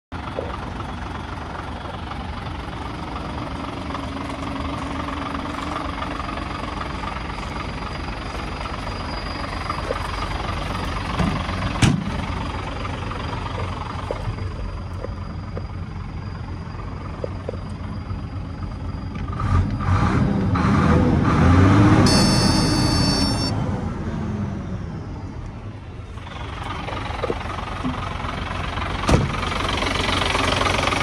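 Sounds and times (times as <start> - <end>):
diesel truck engine idling: 0.1 - 19.4, 22.1 - 31.0.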